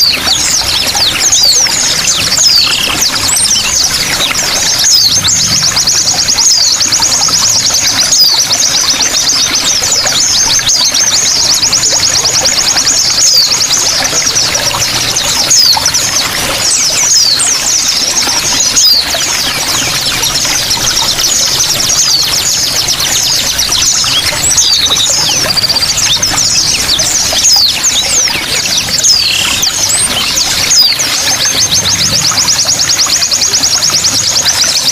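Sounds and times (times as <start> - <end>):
running water: 0.0 - 34.9
songbirds trilling and chirping: 0.0 - 34.9.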